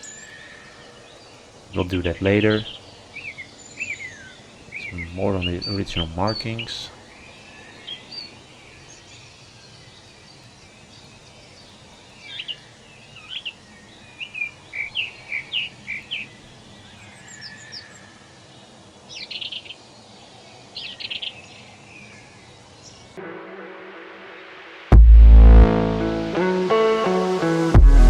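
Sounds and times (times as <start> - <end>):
songbirds chirping: 0.0 - 23.2
low outdoor hiss: 0.0 - 27.8.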